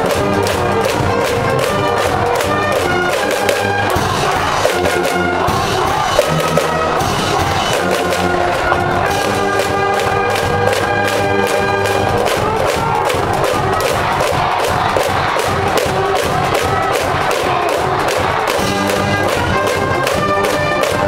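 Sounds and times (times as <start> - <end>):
brass band playing: 0.0 - 21.0
crowd cheering: 0.0 - 21.0
steady drum beat: 0.0 - 21.0
trumpets holding long notes: 0.0 - 21.0.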